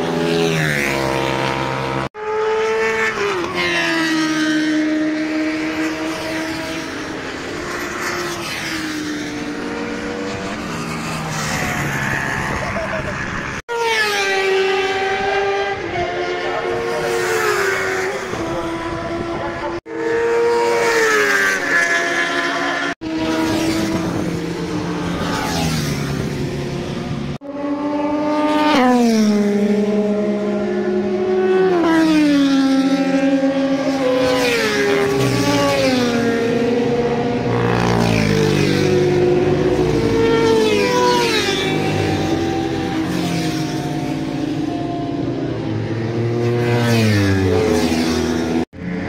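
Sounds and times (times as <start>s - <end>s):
motorcycles racing past: 0.0s - 49.0s.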